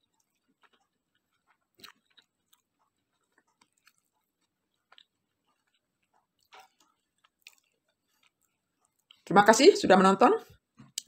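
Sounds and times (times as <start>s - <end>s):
faint chewing: 0.0s - 9.3s, 10.4s - 11.0s.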